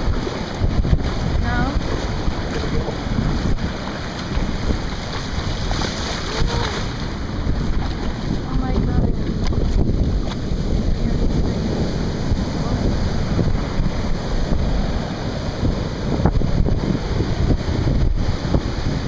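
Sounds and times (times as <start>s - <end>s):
storm surf rushing: 0.0s - 19.0s
wind gusts buffeting microphone: 0.0s - 19.0s.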